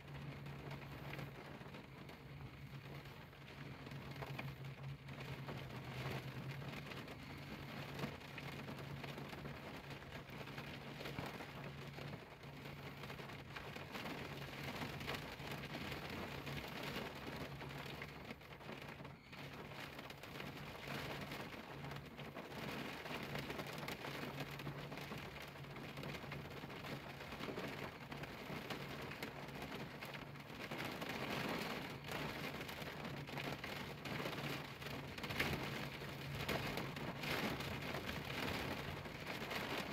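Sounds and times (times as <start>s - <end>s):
rain on car windshield: 0.0s - 39.9s.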